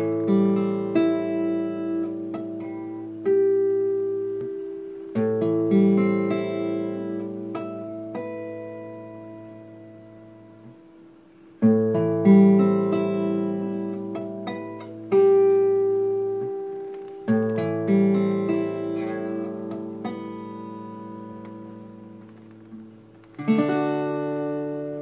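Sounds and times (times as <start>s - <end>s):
acoustic guitar strummed chords: 0.0s - 25.0s.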